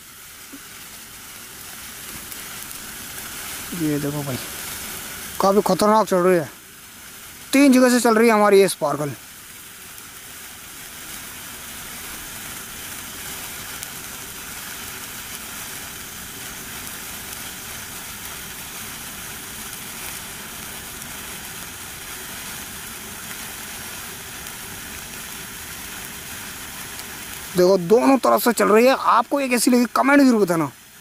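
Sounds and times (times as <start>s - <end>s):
sparkler faint crackle: 0.0s - 31.0s
sparkler sizzling hiss: 0.0s - 31.0s.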